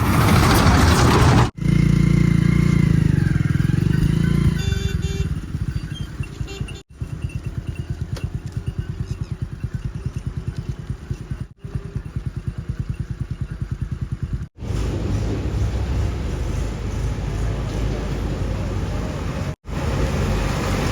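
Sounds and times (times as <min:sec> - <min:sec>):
diesel engine chugging: 0:00.0 - 0:20.9.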